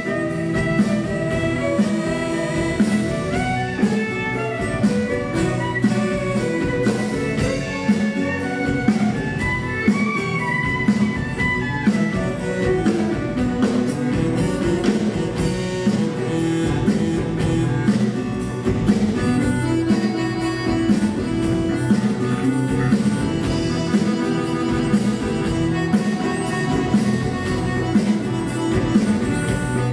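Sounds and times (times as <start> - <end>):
accordion: 0.0 - 29.9
fiddle: 0.0 - 29.9
steady beat: 0.0 - 29.9.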